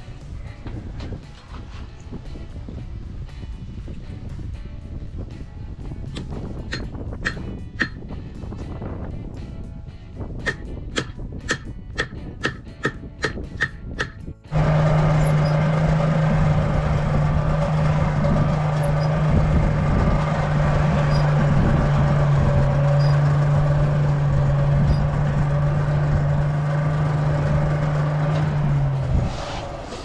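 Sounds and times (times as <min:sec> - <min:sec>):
forge air rushing with low hum: 0:00.0 - 0:30.0.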